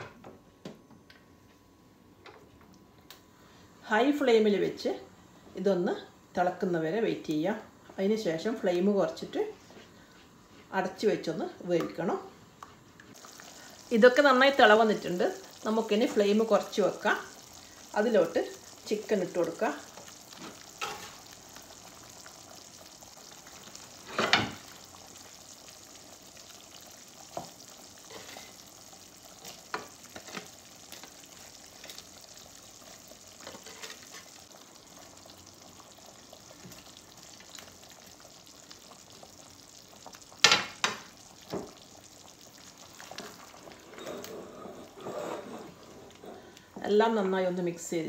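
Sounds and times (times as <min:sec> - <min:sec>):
gravy simmering with low hiss: 0:00.0 - 0:48.0.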